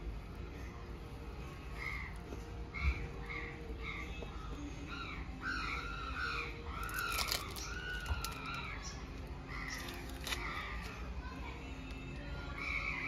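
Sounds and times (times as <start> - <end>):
birds calling: 1.4 - 13.0.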